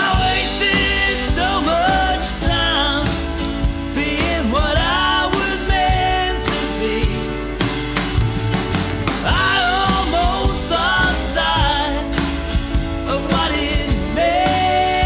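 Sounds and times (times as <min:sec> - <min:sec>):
band music with drums: 0:00.0 - 0:15.0.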